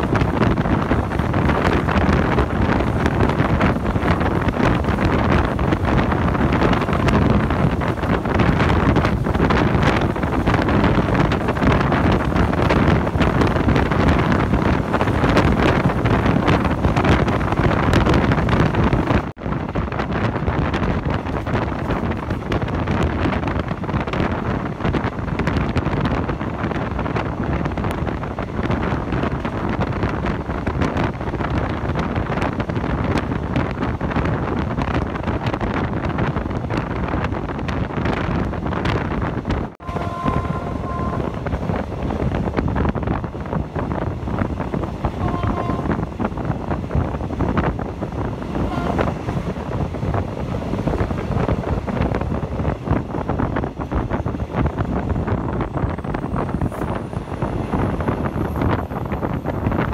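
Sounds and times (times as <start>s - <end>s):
train running noise: 0.0s - 59.9s
wind buffeting microphone: 0.0s - 59.9s.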